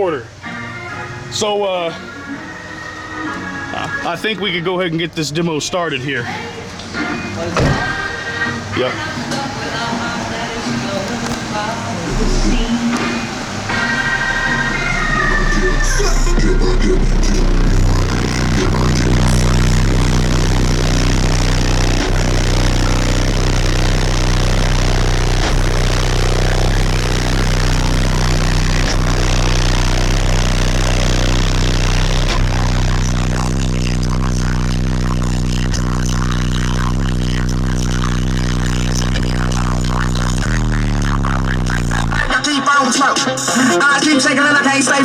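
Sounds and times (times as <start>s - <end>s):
bass-heavy music from subwoofers: 0.1s - 45.0s.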